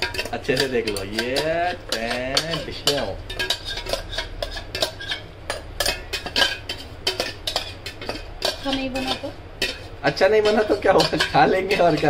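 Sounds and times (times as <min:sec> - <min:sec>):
spoon scraping metal pot: 0:00.0 - 0:12.0.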